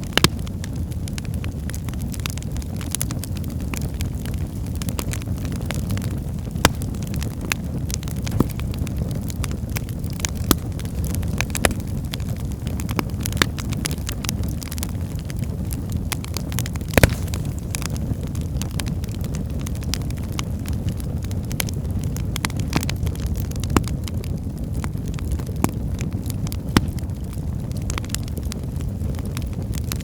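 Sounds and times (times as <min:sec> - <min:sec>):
flames rushing: 0:00.0 - 0:30.0
logs crackling and popping: 0:00.0 - 0:30.0.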